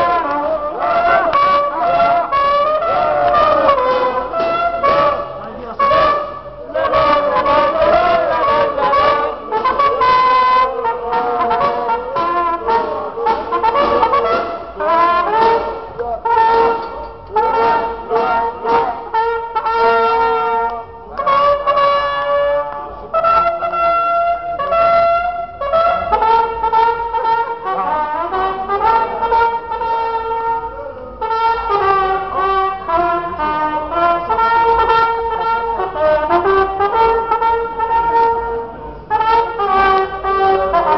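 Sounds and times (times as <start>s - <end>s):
solo brass horn tune: 0.0s - 40.9s.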